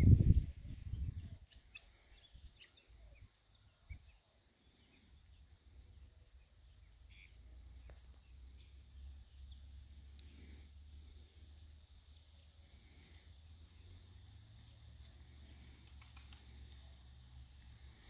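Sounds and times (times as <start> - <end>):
guinea fowl chicks chirping: 1.1 - 4.2, 4.8 - 14.0, 14.6 - 18.0.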